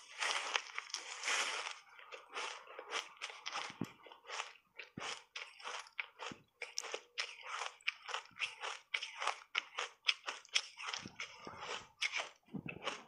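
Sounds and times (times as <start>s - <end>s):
ice being chewed crunching: 0.0s - 13.0s.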